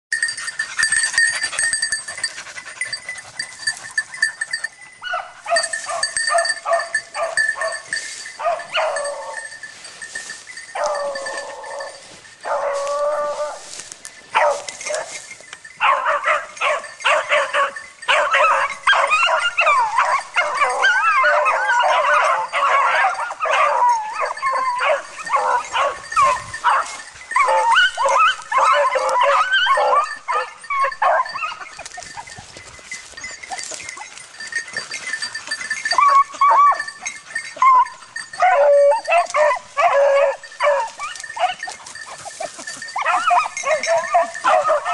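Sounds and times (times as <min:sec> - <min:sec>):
dogs yelping in chorus: 0:00.1 - 0:44.9
hounds barking and baying: 0:00.1 - 0:44.9.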